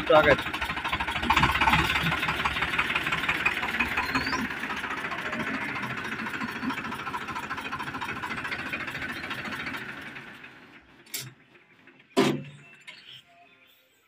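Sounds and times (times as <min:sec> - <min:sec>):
diesel tractor engine clattering: 0:00.0 - 0:13.0.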